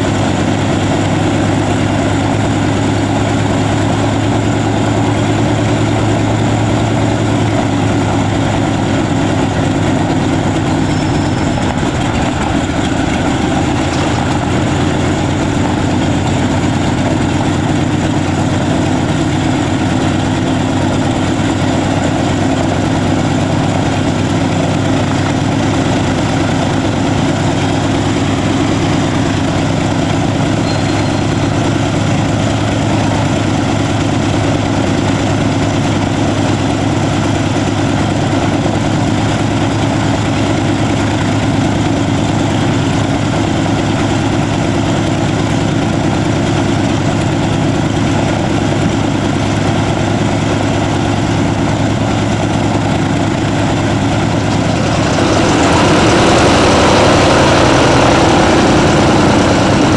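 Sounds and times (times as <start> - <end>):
radial engine idling: 0.0 - 59.9.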